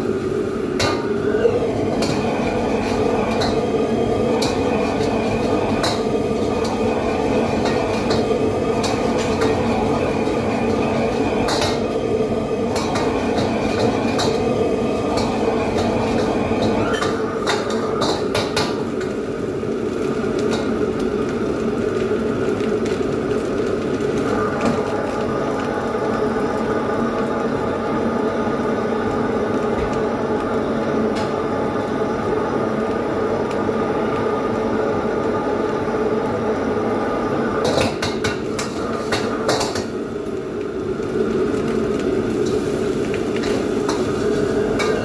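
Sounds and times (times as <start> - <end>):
gas wok burner rushing: 0.0 - 45.0.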